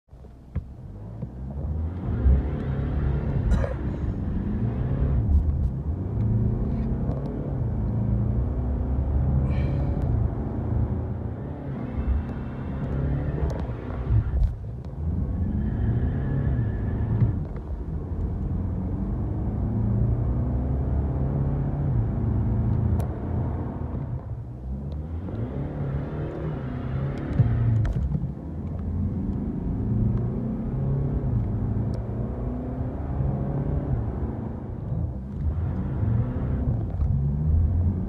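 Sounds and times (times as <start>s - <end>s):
diesel engine accelerating: 0.9s - 38.0s.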